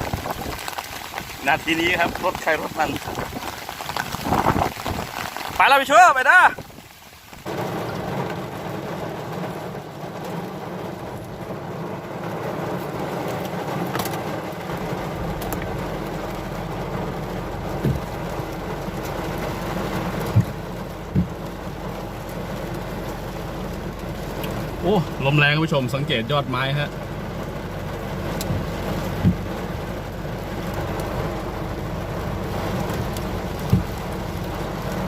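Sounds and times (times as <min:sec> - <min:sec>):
rain beating on truck: 0:00.0 - 0:35.0.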